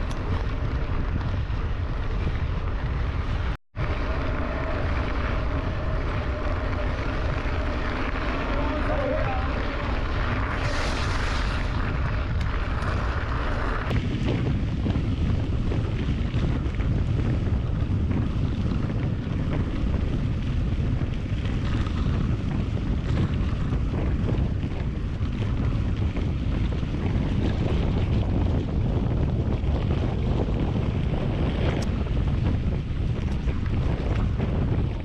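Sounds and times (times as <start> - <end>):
deep steady rumble: 0.0 - 35.0
wind buffeting microphone: 0.0 - 35.0.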